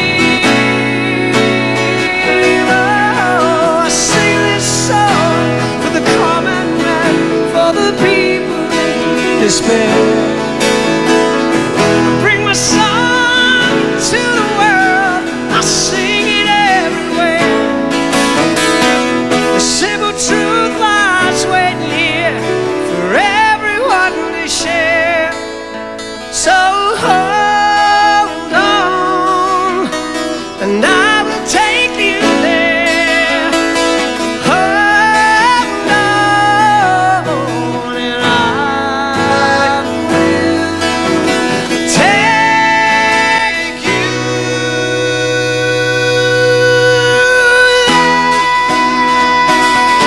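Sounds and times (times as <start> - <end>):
man singing: 0.0 - 50.0
strummed acoustic guitar: 0.0 - 50.0.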